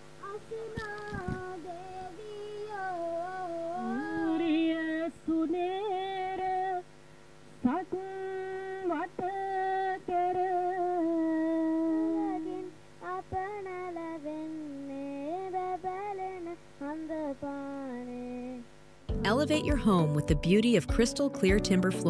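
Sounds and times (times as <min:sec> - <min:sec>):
person singing unaccompanied: 0:00.0 - 0:07.0, 0:07.6 - 0:22.0.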